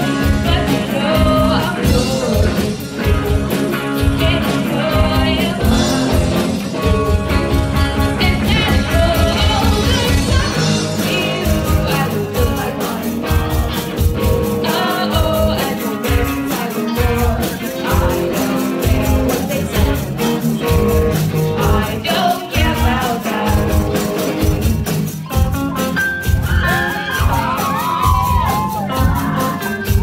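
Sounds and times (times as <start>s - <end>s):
drum kit driving beat: 0.0s - 30.0s
electric bass guitar: 0.0s - 30.0s
electric guitar: 0.0s - 30.0s.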